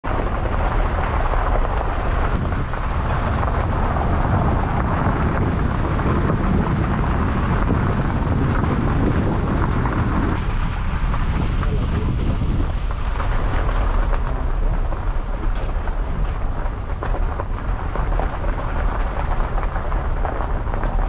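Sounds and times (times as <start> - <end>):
car driving on dirt track: 0.0 - 21.0
wind on microphone: 0.0 - 21.0.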